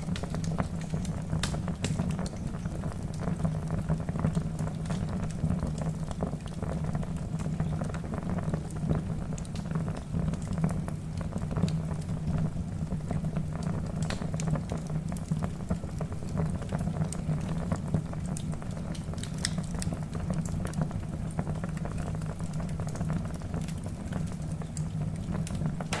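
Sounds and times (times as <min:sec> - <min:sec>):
fire flames rumbling: 0:00.0 - 0:26.0
logs crackling and popping: 0:00.0 - 0:26.0.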